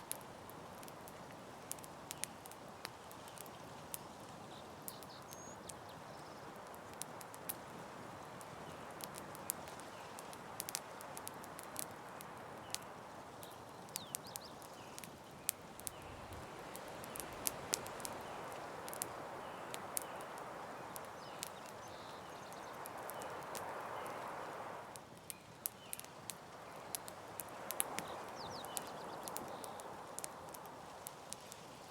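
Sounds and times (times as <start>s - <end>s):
campfire crackling and popping: 0.0s - 31.9s
soft fire hiss: 0.0s - 31.9s.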